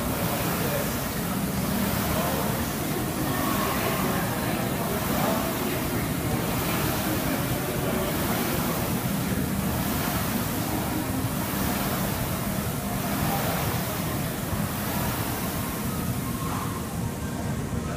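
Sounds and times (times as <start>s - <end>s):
rowing machine fan whooshing: 0.0s - 17.9s.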